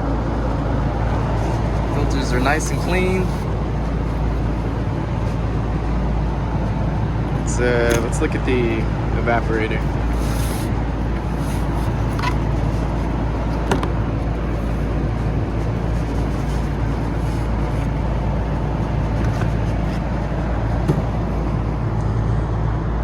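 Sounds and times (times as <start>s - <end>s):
machinery humming: 0.0s - 23.0s.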